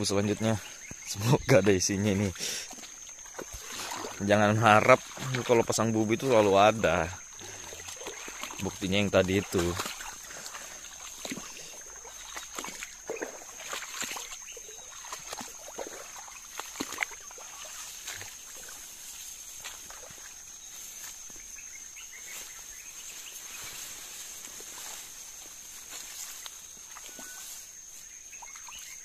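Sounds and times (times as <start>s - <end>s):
footsteps in tall grass: 0.0s - 29.0s
high-pitched insect drone: 0.0s - 29.0s.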